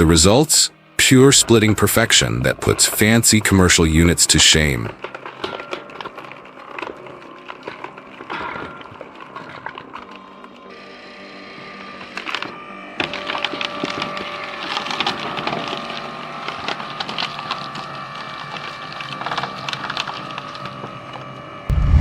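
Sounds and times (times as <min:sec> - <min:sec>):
machine hum: 0:00.0 - 0:22.0
wood cracking and splintering: 0:01.2 - 0:10.8, 0:11.8 - 0:21.8.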